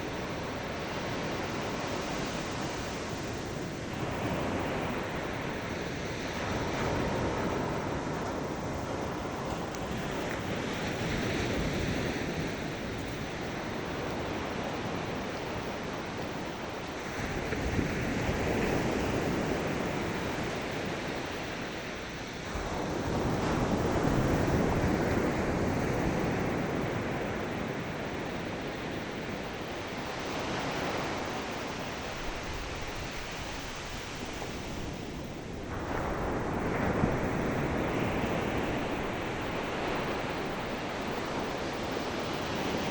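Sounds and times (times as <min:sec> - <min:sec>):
ocean waves breaking on shore: 0:00.0 - 0:42.9
wind noise on microphone: 0:00.0 - 0:42.9.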